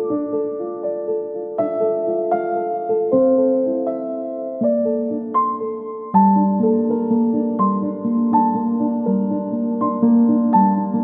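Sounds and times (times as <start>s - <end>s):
slow keyboard music: 0.0s - 11.0s.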